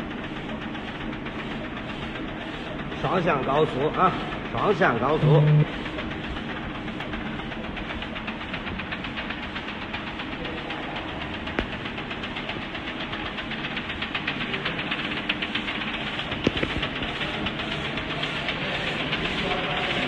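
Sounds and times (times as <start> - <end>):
printer mechanism ticking: 0.0 - 20.0.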